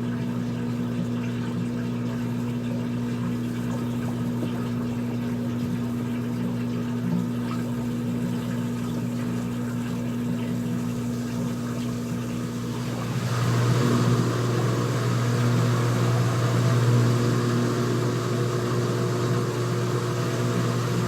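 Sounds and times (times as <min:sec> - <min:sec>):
washing machine drain pump humming: 0:00.0 - 0:21.0.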